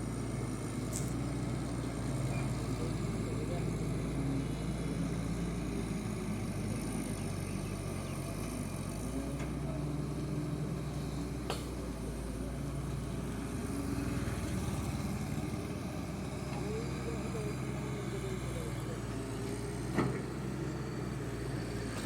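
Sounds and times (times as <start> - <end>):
diesel excavator engine running: 0.0 - 22.0.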